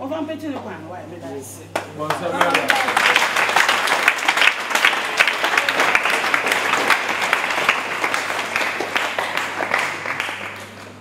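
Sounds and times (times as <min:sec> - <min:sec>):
crowd applauding: 0:01.8 - 0:11.0.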